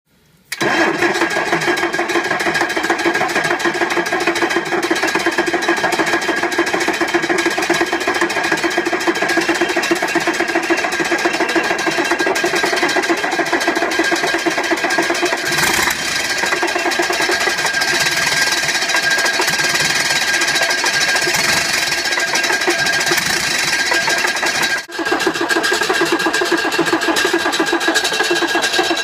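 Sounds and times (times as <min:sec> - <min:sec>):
truck diesel engine running: 0:00.6 - 0:29.0.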